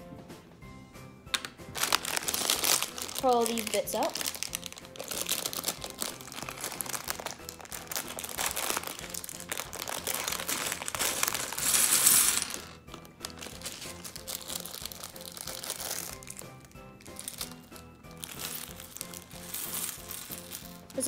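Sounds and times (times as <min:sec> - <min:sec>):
plastic bag crinkling: 0:01.7 - 0:21.0.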